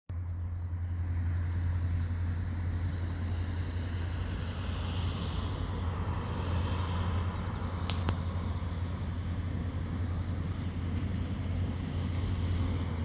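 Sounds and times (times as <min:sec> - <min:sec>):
propeller aeroplane engine droning: 0:00.1 - 0:13.0.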